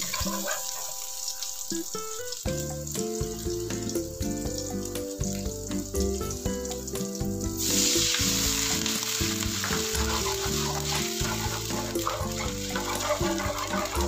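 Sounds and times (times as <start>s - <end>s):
light background music: 0.0s - 14.0s
water hissing in hot oil: 0.0s - 14.0s.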